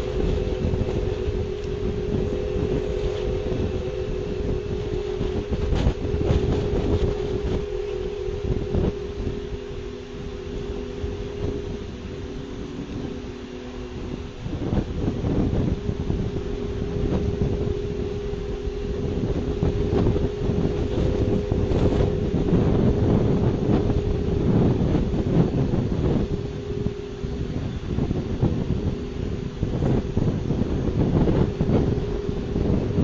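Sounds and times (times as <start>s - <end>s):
droning two-tone hum: 0.0s - 33.0s
wind rumbling on microphone: 0.0s - 33.0s.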